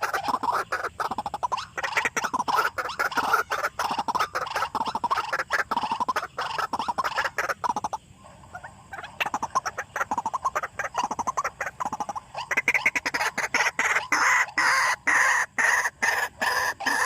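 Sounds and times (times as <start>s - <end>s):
waterhens calling harshly: 0.0s - 17.0s.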